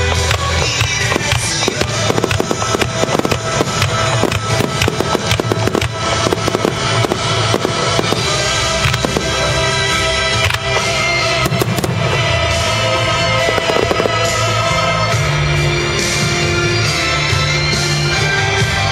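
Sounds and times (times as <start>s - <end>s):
fireworks bangs and crackles: 0.0s - 18.9s
music playing: 0.0s - 18.9s.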